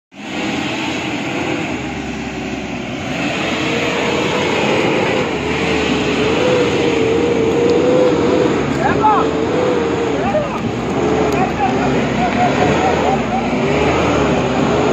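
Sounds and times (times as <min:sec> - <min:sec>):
truck diesel engine labouring: 0:00.1 - 0:14.9.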